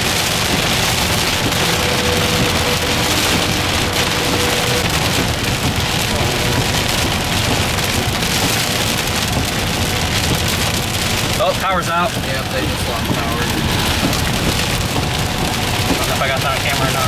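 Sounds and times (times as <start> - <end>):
heavy rain on car windshield: 0.0 - 17.0
road noise: 0.0 - 17.0.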